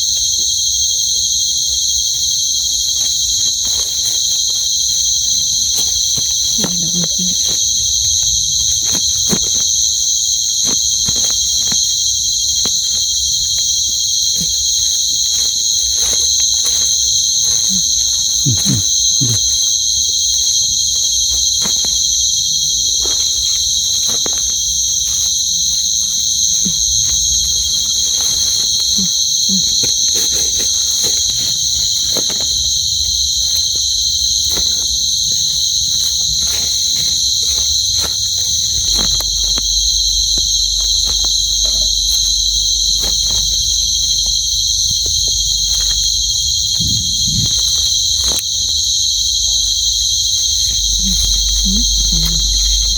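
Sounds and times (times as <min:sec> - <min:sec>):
crickets trilling: 0:00.0 - 0:52.9
small clicks and rustles: 0:00.0 - 0:52.9.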